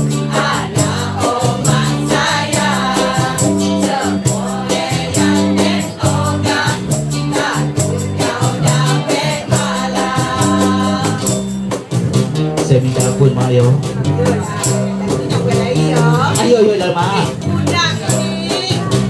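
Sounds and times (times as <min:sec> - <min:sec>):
group singing: 0:00.0 - 0:11.9, 0:14.0 - 0:19.0
bass line: 0:00.0 - 0:19.0.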